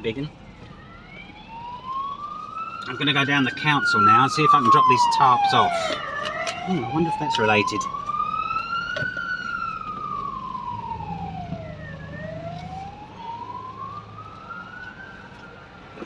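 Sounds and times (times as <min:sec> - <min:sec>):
emergency siren wailing: 0:00.0 - 0:16.0
low steady car hum: 0:00.0 - 0:16.0.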